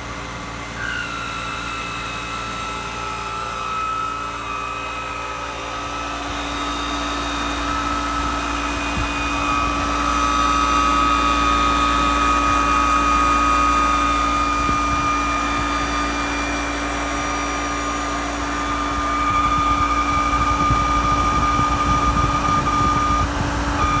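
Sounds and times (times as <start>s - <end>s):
pool pump grinding: 0.0s - 24.0s.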